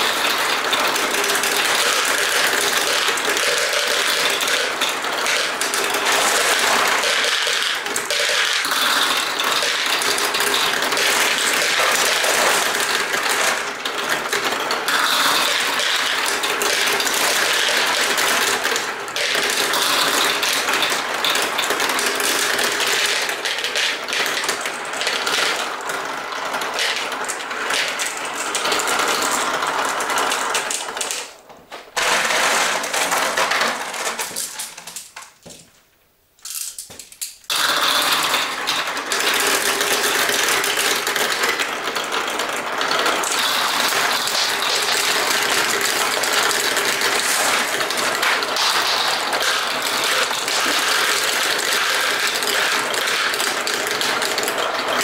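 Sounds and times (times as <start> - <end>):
marbles rattling down plastic run: 0.0 - 35.2, 36.4 - 55.0.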